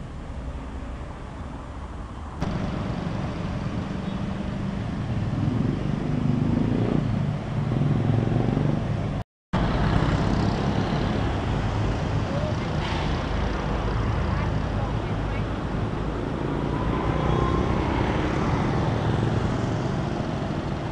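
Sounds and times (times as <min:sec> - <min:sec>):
road traffic passing: 0:00.0 - 0:20.9.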